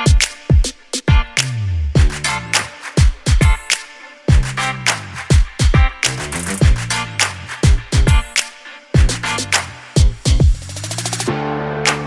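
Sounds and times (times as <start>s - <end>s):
funky background music: 0.0s - 12.0s.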